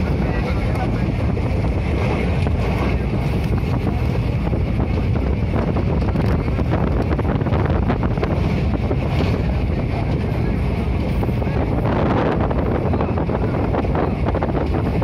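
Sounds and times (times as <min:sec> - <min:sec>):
train running rumble: 0:00.0 - 0:15.0
wind buffeting microphone: 0:00.0 - 0:15.0.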